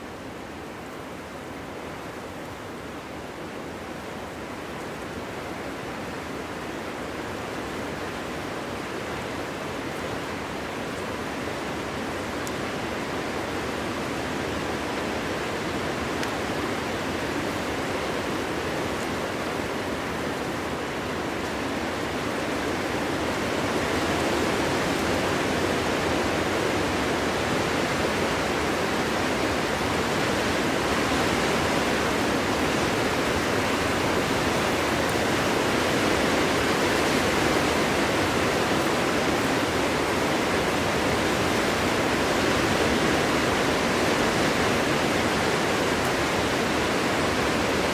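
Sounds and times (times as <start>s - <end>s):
wind blowing through forest: 0.0s - 47.9s.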